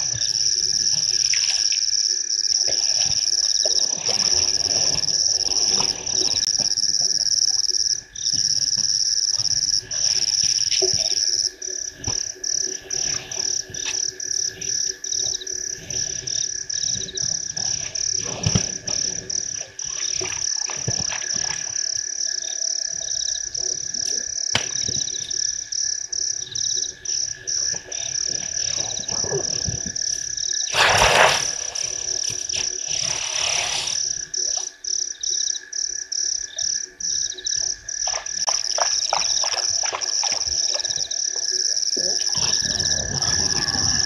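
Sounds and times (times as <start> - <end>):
low insect drone: 0.0 - 44.0.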